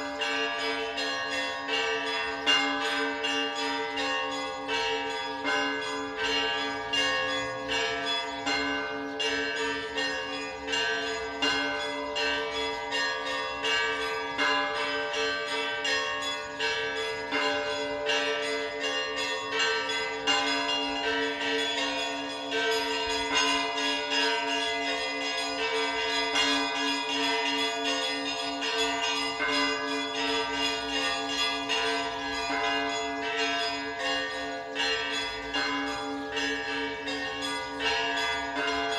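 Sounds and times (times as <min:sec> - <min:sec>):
small church bells striking: 0:00.0 - 0:38.9.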